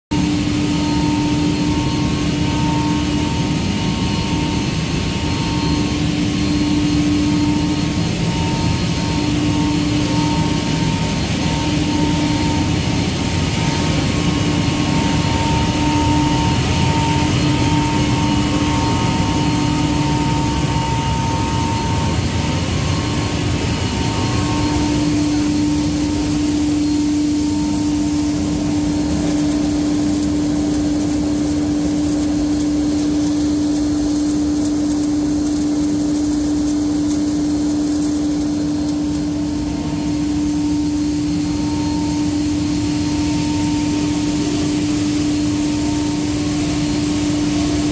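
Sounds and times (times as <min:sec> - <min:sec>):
machine drone with hum: 0:00.1 - 0:47.9.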